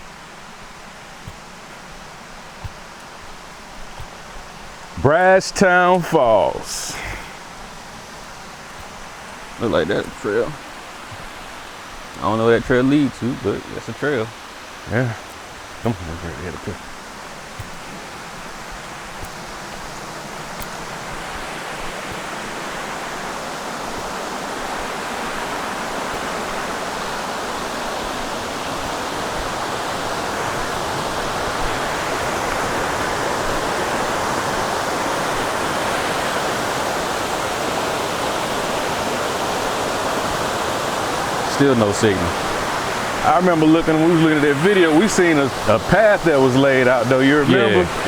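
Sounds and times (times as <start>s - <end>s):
water rushing over rocks: 0.0s - 48.0s.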